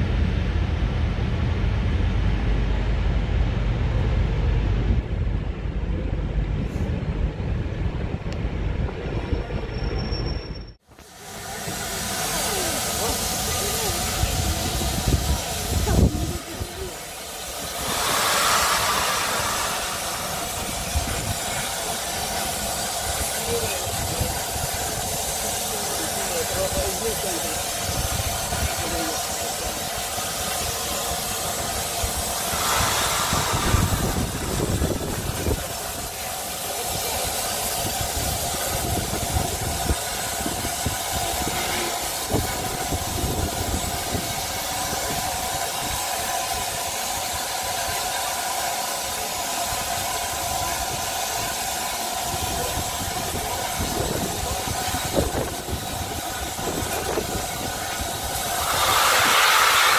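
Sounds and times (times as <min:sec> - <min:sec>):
gusts of steam: 0:00.0 - 0:59.9
steam locomotive hissing: 0:09.6 - 0:59.9.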